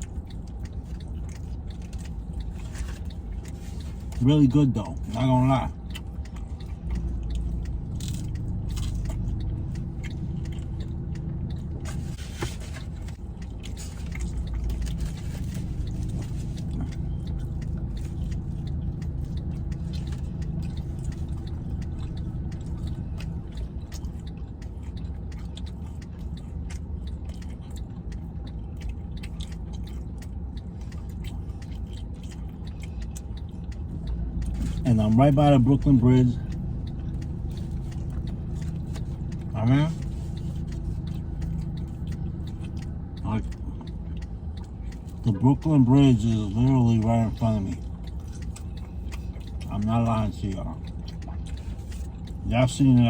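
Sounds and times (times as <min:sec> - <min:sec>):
person chewing pizza: 0:00.0 - 0:53.0
steady low rumble: 0:00.0 - 0:53.0.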